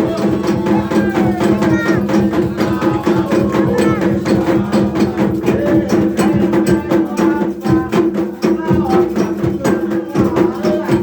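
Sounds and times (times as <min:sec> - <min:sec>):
fast drumming: 0:00.0 - 0:11.0
voices singing: 0:00.0 - 0:11.0.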